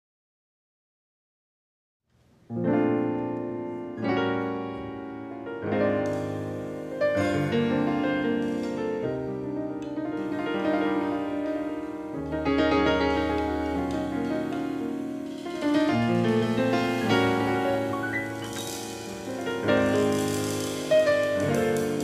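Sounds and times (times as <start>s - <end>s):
jazz piano: 2.2s - 22.0s.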